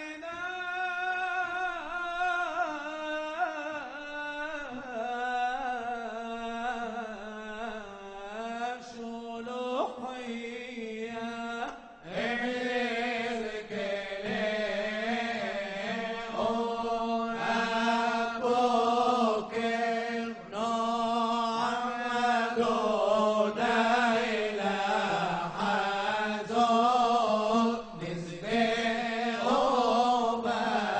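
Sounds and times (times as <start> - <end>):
man singing ornamented chant: 0.0 - 30.9.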